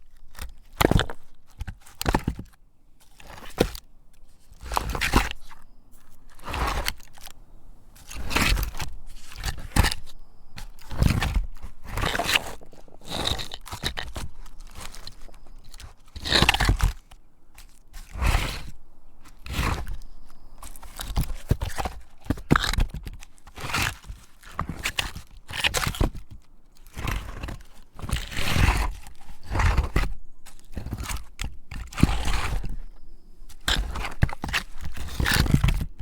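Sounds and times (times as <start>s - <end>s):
log scraping against boulder: 0.1s - 36.0s.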